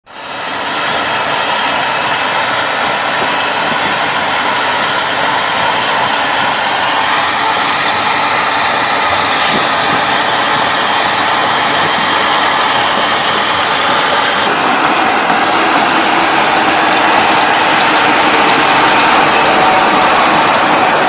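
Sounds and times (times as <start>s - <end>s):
heavy truck running: 0.0s - 21.0s.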